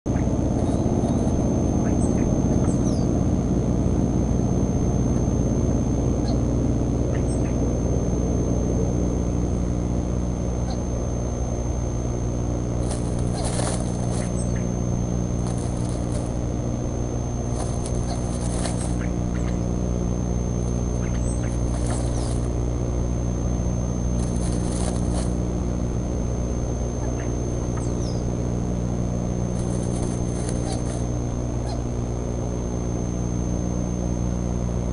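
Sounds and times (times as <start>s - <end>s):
low electrical hum: 0.1s - 34.9s
thin high whine: 0.1s - 34.9s.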